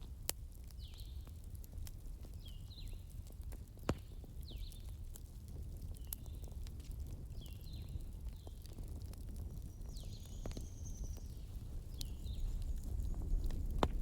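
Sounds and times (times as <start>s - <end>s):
bonfire crackling and popping: 0.0s - 14.0s
fire low rumble: 0.0s - 14.0s.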